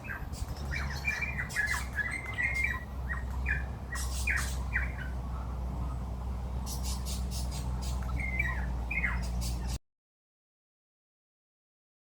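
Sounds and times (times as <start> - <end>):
birds squawking: 0.0 - 9.8
steady low hum: 0.0 - 9.8.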